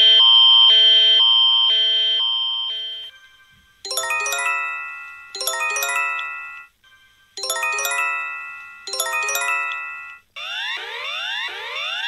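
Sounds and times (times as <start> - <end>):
emergency alert chime: 0.0 - 12.0.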